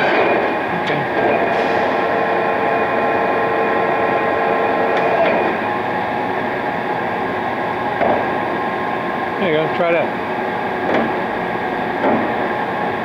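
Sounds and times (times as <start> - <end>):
lathe mechanical whir: 0.0 - 13.0.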